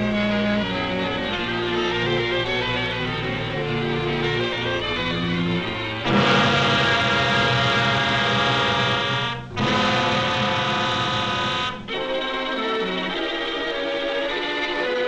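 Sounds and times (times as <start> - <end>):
orchestral brass chords: 0.0 - 15.0.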